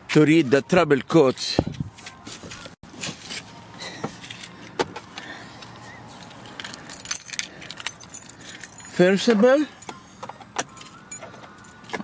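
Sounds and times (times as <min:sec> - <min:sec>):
handling clicks and rustles: 0:00.9 - 0:12.0.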